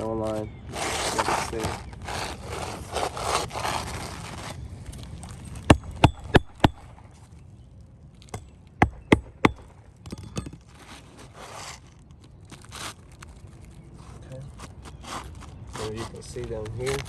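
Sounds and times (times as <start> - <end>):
shingles scraping: 0.0 - 17.0.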